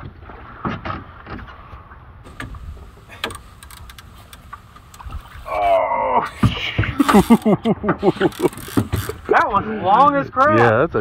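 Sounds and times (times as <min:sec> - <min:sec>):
rumble of wind and water: 0:00.0 - 0:10.6.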